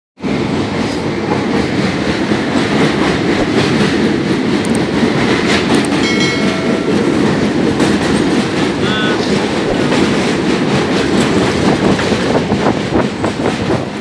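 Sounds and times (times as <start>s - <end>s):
train wheels rumbling and clattering: 0.2s - 14.0s.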